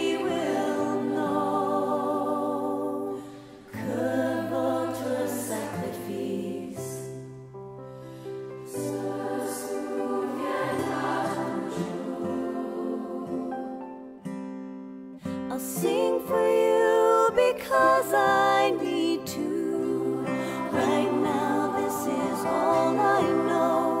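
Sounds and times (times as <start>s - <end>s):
youth choir singing: 0.0s - 7.2s, 8.7s - 14.0s, 15.8s - 24.0s.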